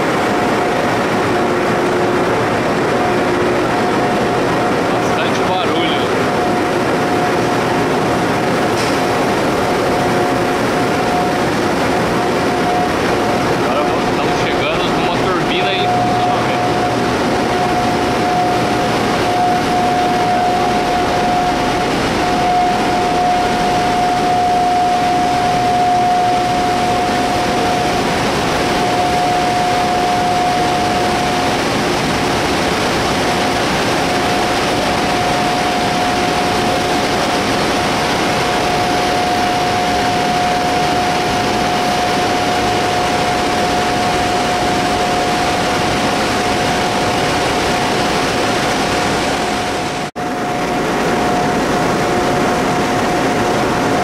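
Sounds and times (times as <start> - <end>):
high-pitched whine: 0.0 - 54.0.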